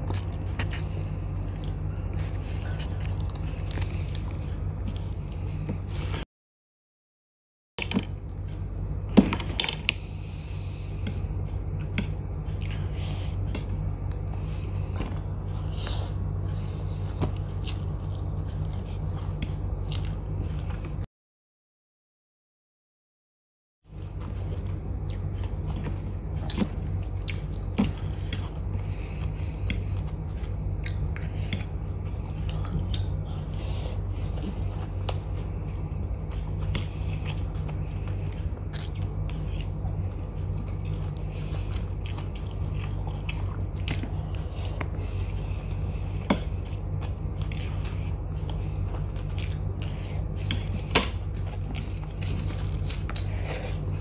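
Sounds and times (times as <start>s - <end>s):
chewing noodles: 0.0s - 6.2s, 9.9s - 21.0s, 24.0s - 54.0s
steady low hum: 0.0s - 6.2s, 7.8s - 21.1s, 23.9s - 54.0s.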